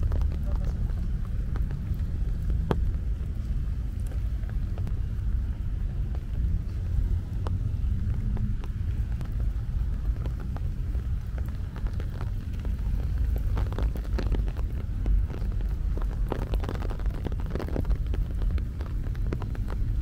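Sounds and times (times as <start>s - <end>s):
low rain rumble: 0.0s - 20.0s
rain drops tapping: 0.0s - 20.0s.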